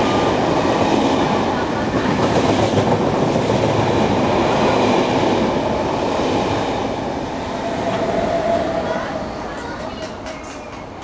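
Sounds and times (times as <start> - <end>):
train rushing past: 0.0 - 11.0.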